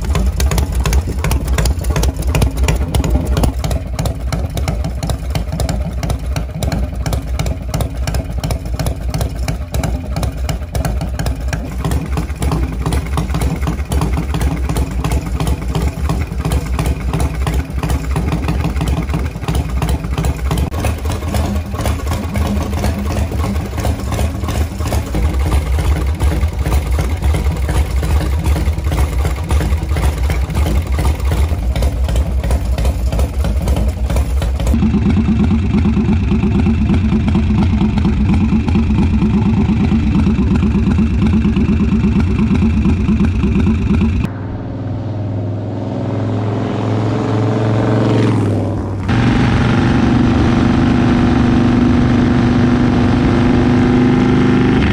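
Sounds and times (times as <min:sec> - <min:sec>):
motorcycle engine running: 0:00.0 - 0:45.5, 0:47.8 - 0:54.9.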